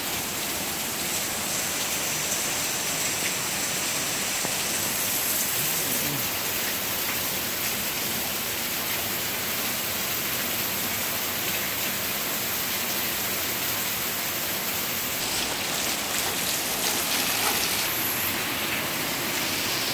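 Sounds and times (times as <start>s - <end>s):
heavy rain pouring: 0.0s - 19.9s.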